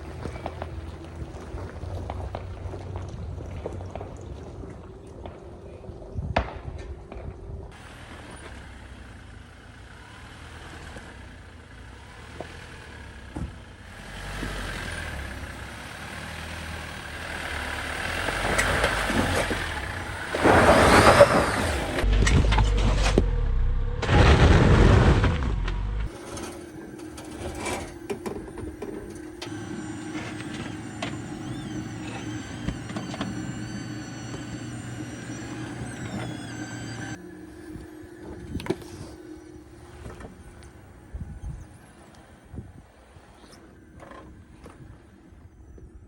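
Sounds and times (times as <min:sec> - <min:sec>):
off-road engine revving: 0:00.0 - 0:04.6, 0:07.6 - 0:45.9.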